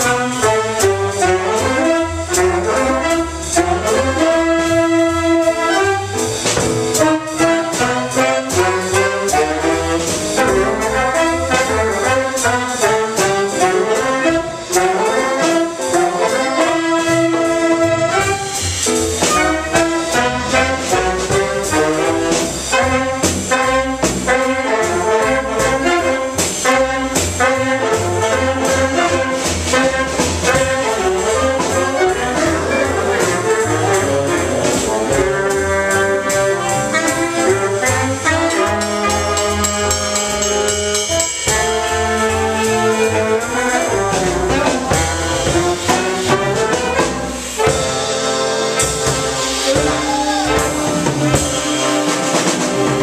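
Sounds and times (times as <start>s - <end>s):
big band playing jazz: 0.0s - 53.0s.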